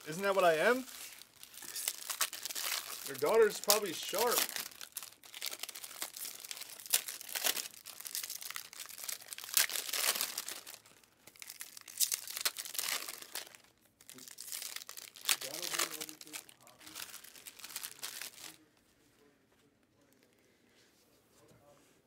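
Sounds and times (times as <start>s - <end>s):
foil wrappers tearing and crinkling: 0.3s - 18.6s.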